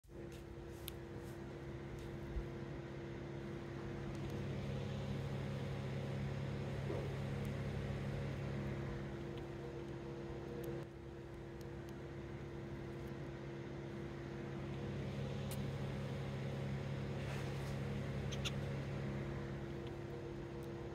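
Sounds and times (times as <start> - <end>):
low mechanical hum: 0.0 - 20.9.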